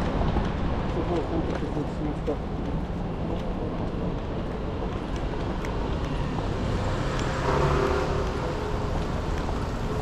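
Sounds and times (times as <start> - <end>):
city traffic rumble: 0.0 - 10.0.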